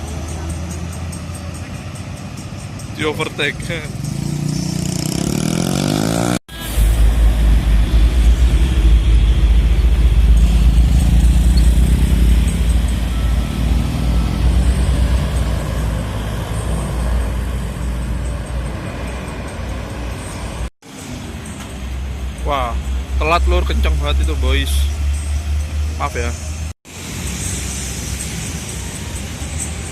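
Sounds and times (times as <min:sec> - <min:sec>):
large vehicles rumbling: 0:00.0 - 0:29.9
traffic on wet road: 0:00.0 - 0:29.9.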